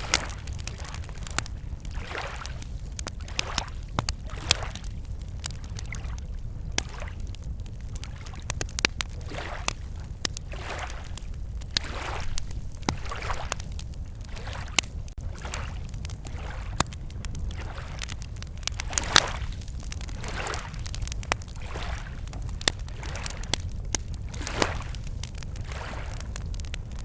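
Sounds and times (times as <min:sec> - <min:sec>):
campfire crackling and popping: 0:00.0 - 0:27.0
lake waves lapping on shore: 0:00.0 - 0:27.0.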